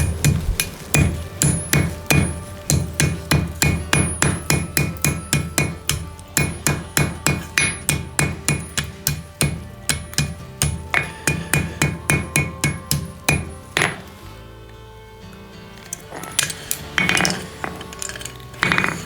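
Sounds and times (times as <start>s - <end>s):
hammer striking steel on anvil: 0.0s - 14.2s, 15.8s - 19.0s.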